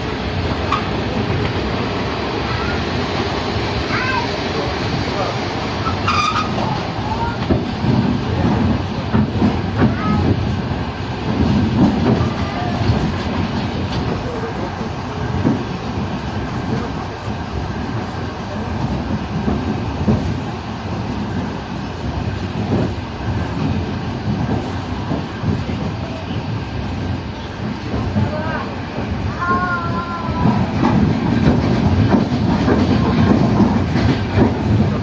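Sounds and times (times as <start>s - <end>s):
train carriage rumbling on track: 0.0s - 35.0s
wheels knocking and clattering: 5.8s - 35.0s.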